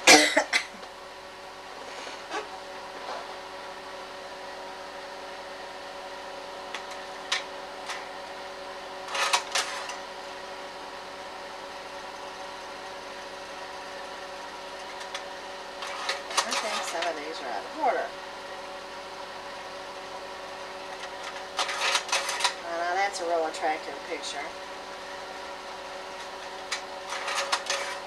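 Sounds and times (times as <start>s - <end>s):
projector mechanical hum: 0.0s - 28.0s.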